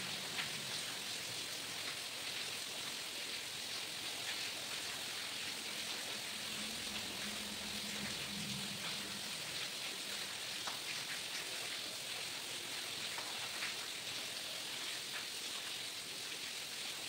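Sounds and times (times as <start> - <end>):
steady hiss: 0.0 - 16.5.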